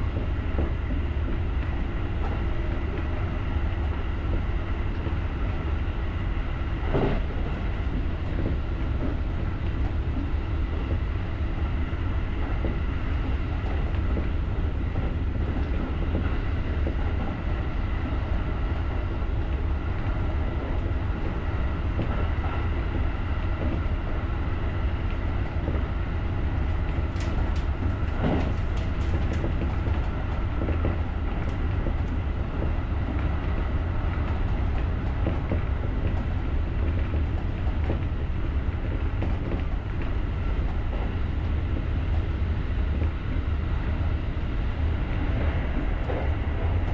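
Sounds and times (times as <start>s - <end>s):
electric train rumbling: 0.0s - 46.9s.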